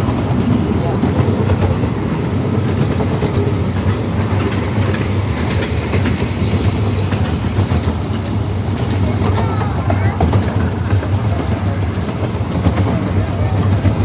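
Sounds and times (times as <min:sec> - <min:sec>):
train cars running on rails: 0:00.0 - 0:14.0.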